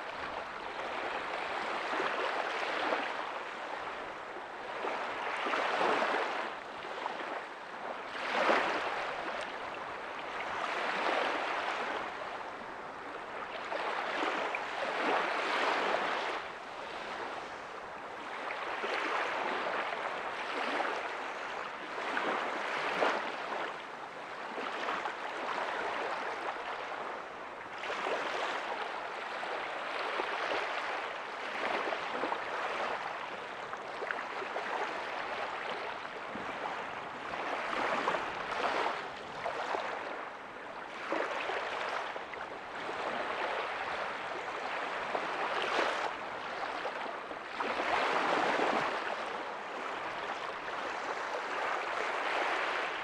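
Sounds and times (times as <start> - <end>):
small waves washing up beach: 0.0 - 53.0.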